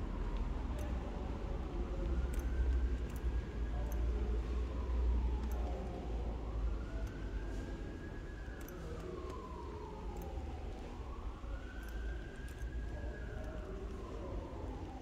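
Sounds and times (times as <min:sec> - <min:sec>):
siren wailing: 0:01.3 - 0:15.0.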